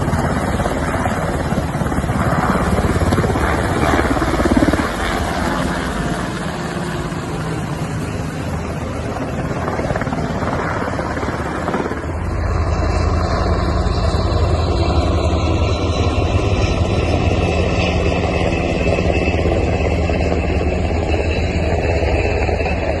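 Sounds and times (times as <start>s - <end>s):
helicopter flying: 0.0s - 23.0s.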